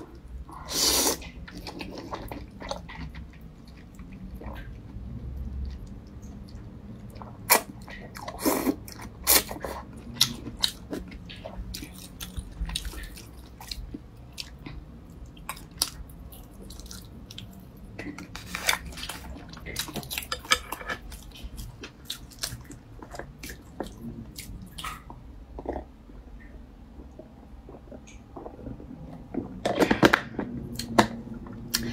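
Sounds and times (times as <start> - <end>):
chewing with mouth clicks: 0.1 - 31.9.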